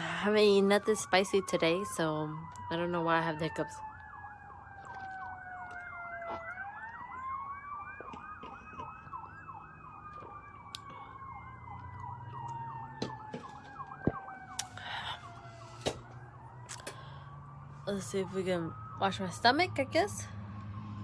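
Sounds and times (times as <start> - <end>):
siren wailing: 0.0 - 21.0
siren yelping: 0.0 - 21.0.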